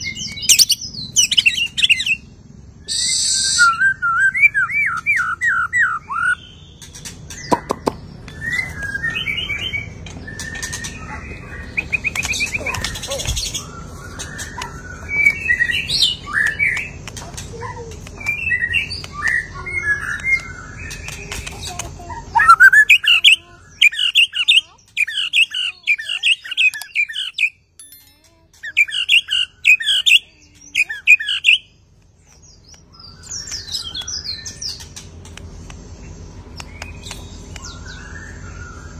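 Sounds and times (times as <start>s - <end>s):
songbird whistling and chirping: 0.0s - 6.8s, 7.4s - 17.0s, 18.1s - 34.8s, 36.5s - 38.9s.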